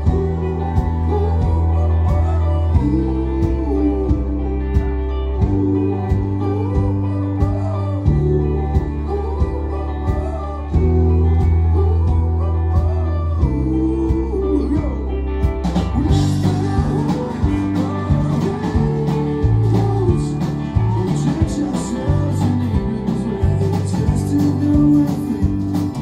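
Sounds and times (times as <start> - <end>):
man singing: 0.0 - 15.2, 15.8 - 26.0
live rock band playing: 0.0 - 26.0.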